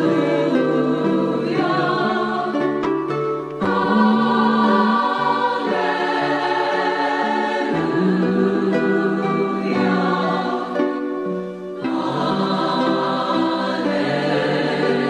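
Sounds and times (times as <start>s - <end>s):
choir holding long chords: 0.0s - 15.0s.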